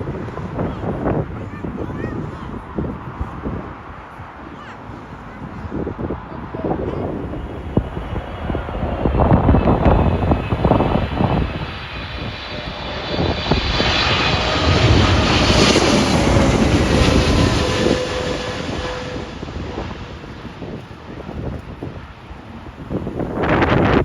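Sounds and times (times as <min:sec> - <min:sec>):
jet airliner passing overhead: 0:00.0 - 0:24.0
wind buffeting microphone: 0:00.0 - 0:24.0.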